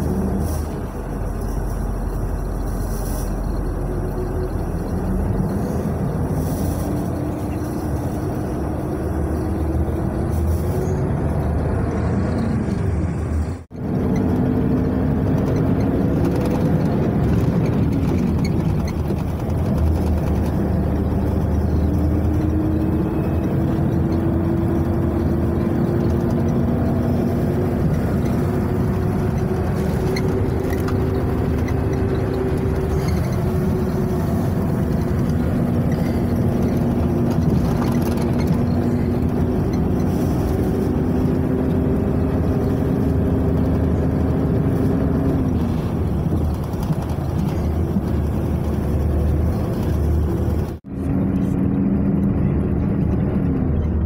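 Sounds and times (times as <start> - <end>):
coach engine and road noise: 0.0 - 54.0.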